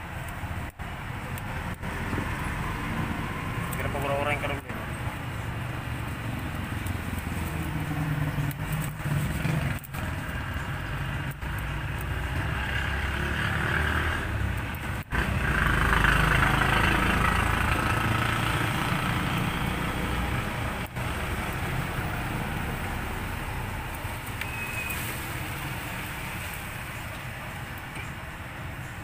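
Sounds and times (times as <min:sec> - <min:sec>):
engine running: 0:00.0 - 0:24.4.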